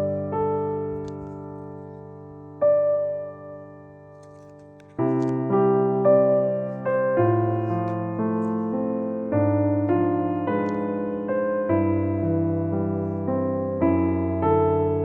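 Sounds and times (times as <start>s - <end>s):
piano chords and notes: 0.0s - 15.0s.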